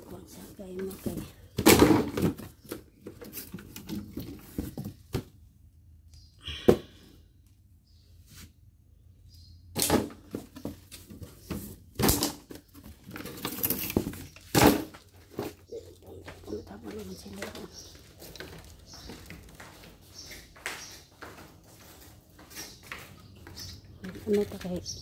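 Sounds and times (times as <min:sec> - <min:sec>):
rustling of handled objects: 0:00.0 - 0:05.3, 0:10.2 - 0:25.0.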